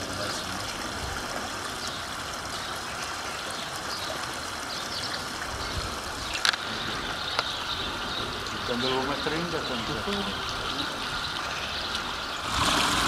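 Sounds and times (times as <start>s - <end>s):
water running steadily: 0.0s - 13.0s.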